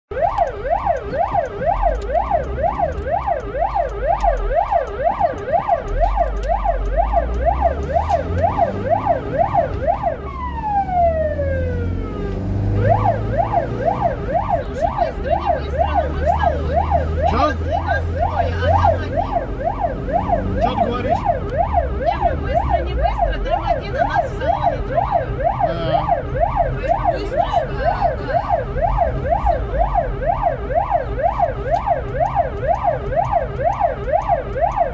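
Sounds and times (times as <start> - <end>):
ambulance siren wailing: 0.1 - 34.9
road rumble: 0.1 - 34.9
vehicle engine: 0.1 - 34.9.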